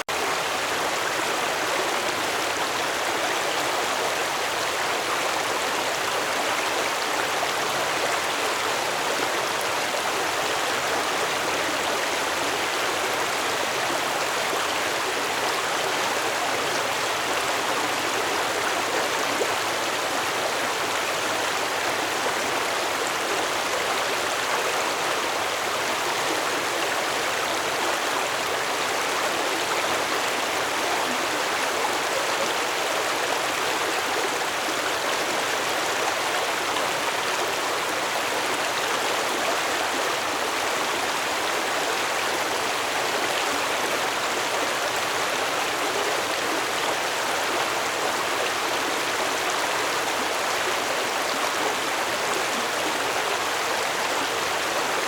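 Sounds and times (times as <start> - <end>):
stream water flowing over rocks: 0.0 - 55.0.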